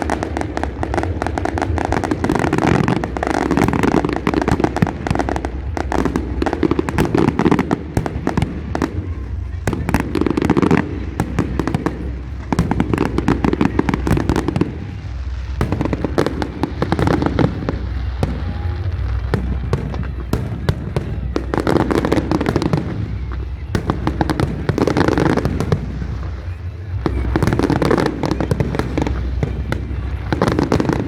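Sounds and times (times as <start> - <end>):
booming firework shells: 0.0 - 31.0
fireworks crackling and banging: 0.0 - 31.0.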